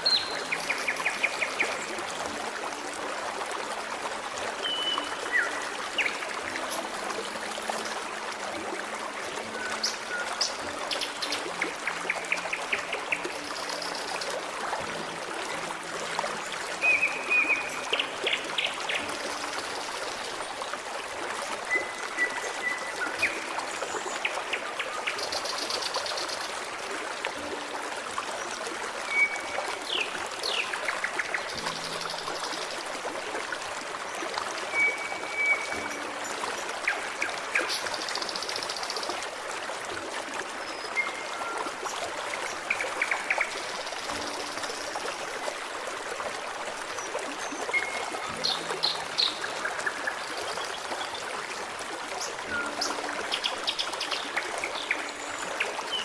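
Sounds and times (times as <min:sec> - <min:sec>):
forest stream running: 0:00.0 - 0:56.0.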